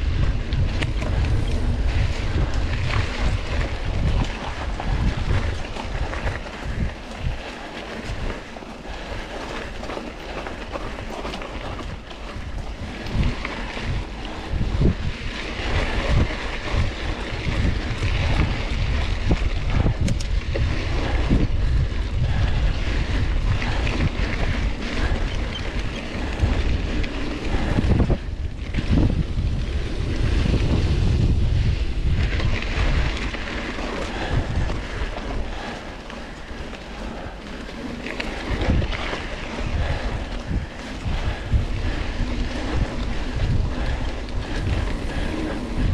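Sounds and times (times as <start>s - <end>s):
mountain bike rumbling on trail: 0.0s - 45.9s
wind buffeting microphone: 0.0s - 45.9s.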